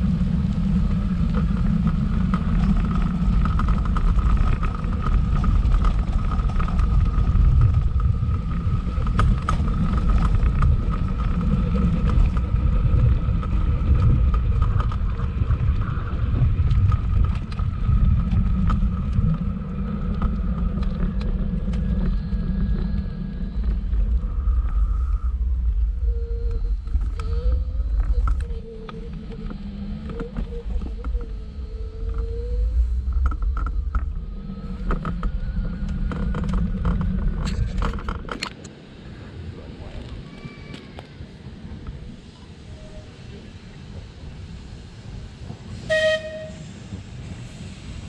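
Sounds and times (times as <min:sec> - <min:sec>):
electric tram rumbling on track: 0:00.0 - 0:48.0
tram whine: 0:00.0 - 0:48.0.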